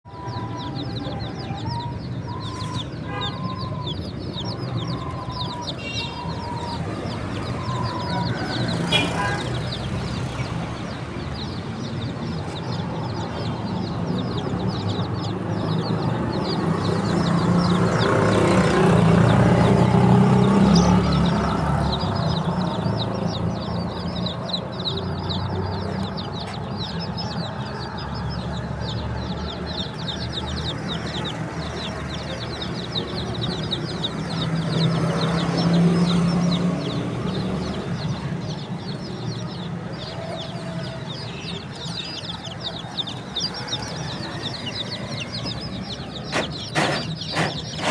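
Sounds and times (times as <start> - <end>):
baby chicks peeping: 0.1 - 47.9.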